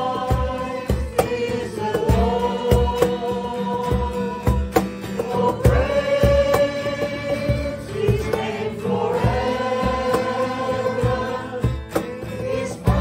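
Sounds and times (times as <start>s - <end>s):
strummed acoustic guitar: 0.0s - 13.0s
voices singing a hymn: 0.0s - 13.0s
cajon low thumps: 0.2s - 6.8s, 7.4s - 13.0s.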